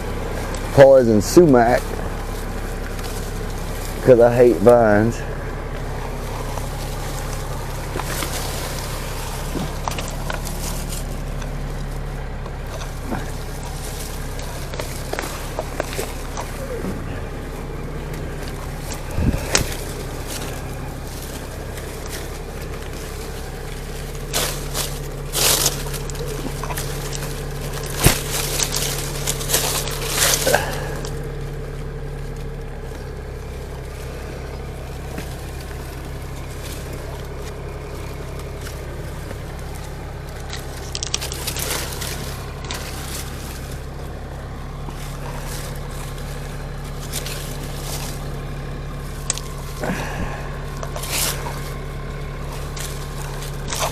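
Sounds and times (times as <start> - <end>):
branches scraping and crackling: 0.0 - 53.9
old tractor engine running: 0.0 - 53.9.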